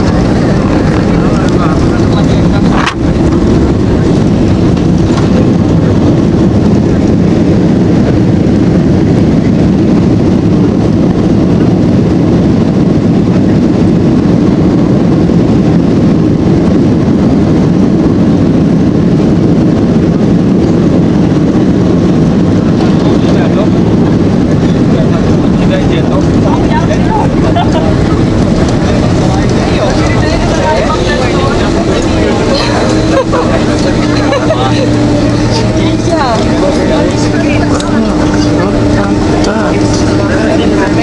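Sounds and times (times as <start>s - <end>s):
airplane cabin roar: 0.0s - 41.0s.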